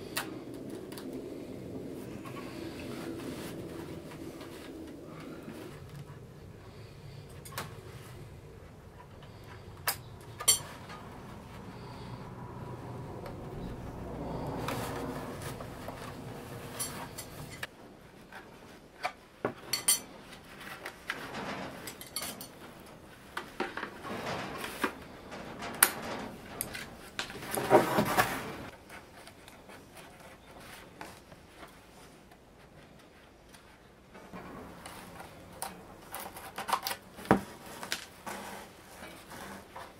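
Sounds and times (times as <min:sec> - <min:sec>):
bamboo strips rustling and clicking: 0:00.0 - 0:39.9.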